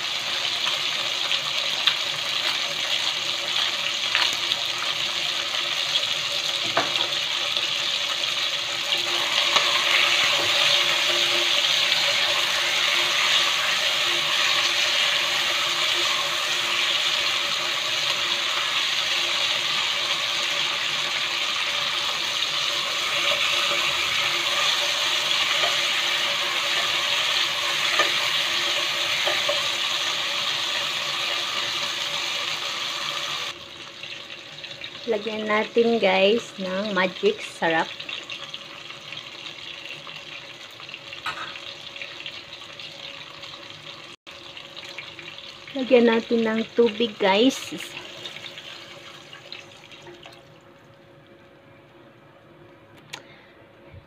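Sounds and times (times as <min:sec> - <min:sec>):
chicken sizzling in hot oil: 0:00.0 - 0:50.5.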